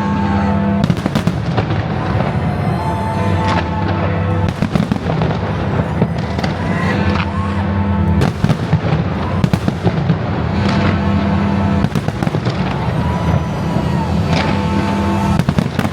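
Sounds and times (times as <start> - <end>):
fireworks bangs: 0.0 - 15.9
fireworks rising whistles: 0.4 - 15.9.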